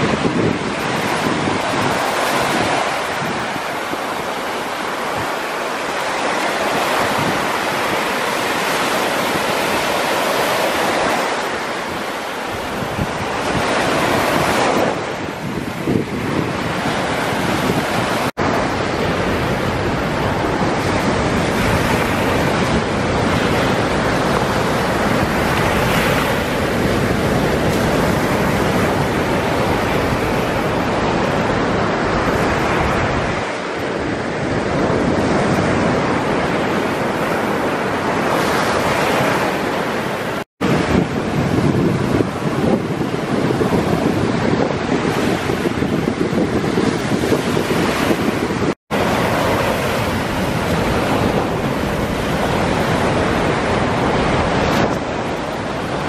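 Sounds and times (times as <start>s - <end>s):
surf breaking on a beach: 0.0s - 56.0s.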